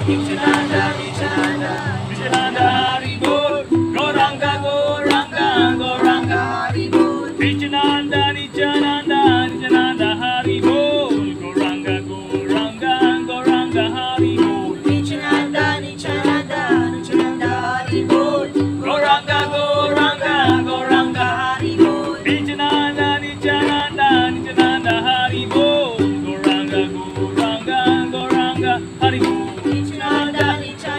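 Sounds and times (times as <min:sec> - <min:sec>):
strummed string instrument: 0:00.0 - 0:30.9
voices chanting: 0:00.0 - 0:30.9.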